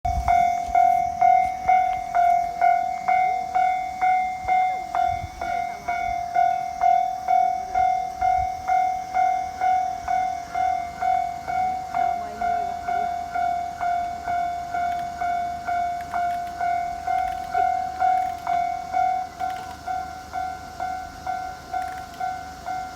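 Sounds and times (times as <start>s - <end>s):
level-crossing electronic bell: 0.1s - 22.9s.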